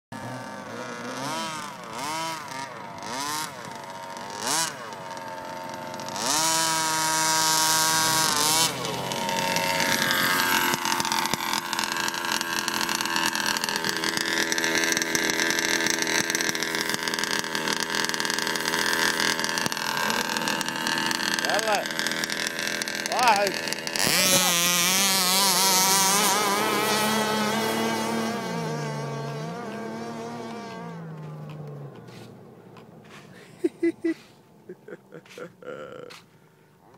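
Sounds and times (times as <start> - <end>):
small two-stroke engine revving: 0.1 - 36.3.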